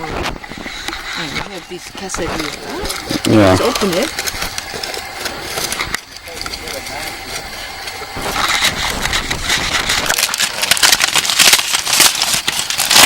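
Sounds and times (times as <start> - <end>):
foil pouch crinkling: 1.1 - 13.0.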